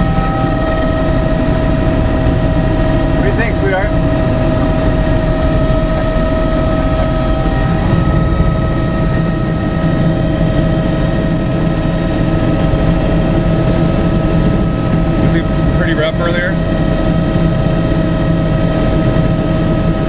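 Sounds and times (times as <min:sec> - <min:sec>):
helicopter engine and rotor drone: 0:00.0 - 0:20.0
high whine: 0:00.0 - 0:20.0.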